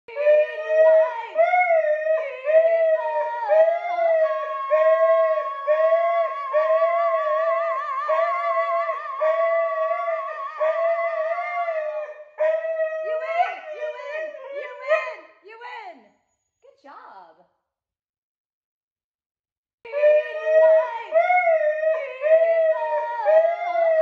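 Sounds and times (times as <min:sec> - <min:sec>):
dog howling: 0:00.1 - 0:15.2, 0:19.9 - 0:24.0
woman howling: 0:00.1 - 0:15.2, 0:19.9 - 0:24.0.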